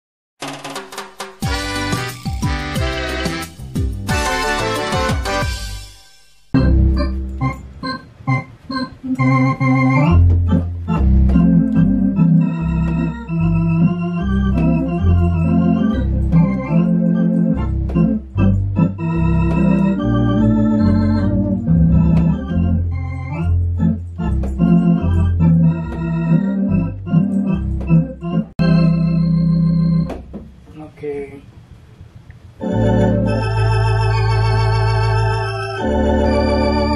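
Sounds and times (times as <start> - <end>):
electronic organ playing chords: 0.8 - 30.3, 32.6 - 36.9.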